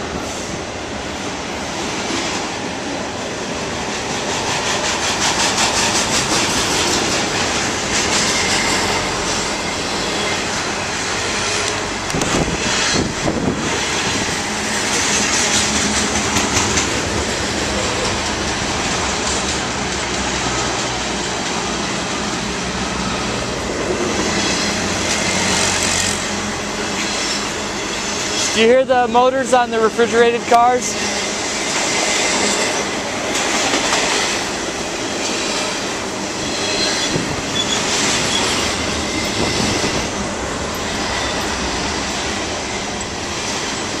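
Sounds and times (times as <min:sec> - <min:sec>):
train wheels clattering on rails: 0:00.0 - 0:29.2, 0:29.8 - 0:44.0.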